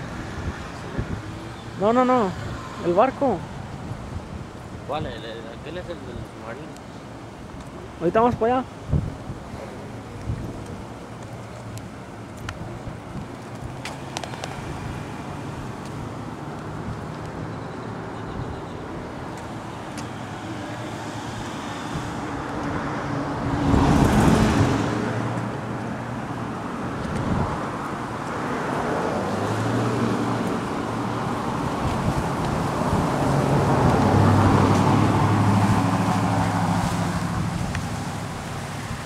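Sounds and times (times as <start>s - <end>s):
cars driving by: 0.0s - 39.0s
loud vehicle rush: 0.0s - 39.0s.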